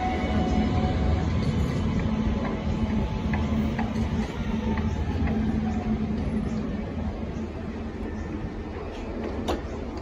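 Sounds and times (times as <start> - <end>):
tram equipment humming: 0.0 - 10.0.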